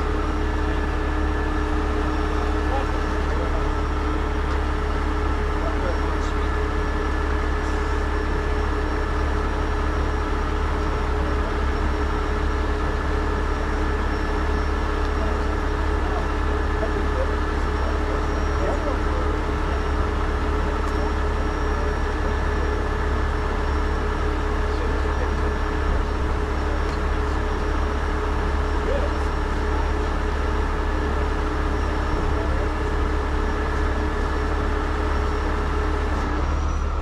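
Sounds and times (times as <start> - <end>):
steady whine: 0.0 - 37.0
truck engine rumbling: 0.0 - 37.0.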